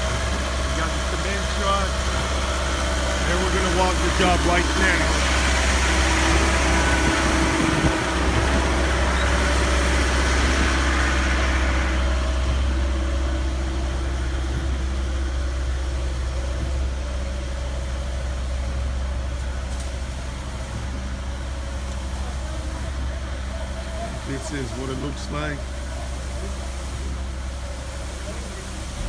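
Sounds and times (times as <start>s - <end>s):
heavy diesel truck engine: 0.0s - 29.0s.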